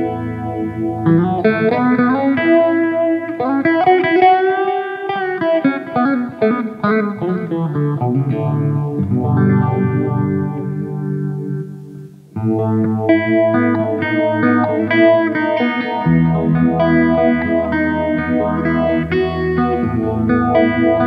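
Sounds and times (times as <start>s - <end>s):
electric guitar solo: 0.0s - 21.0s.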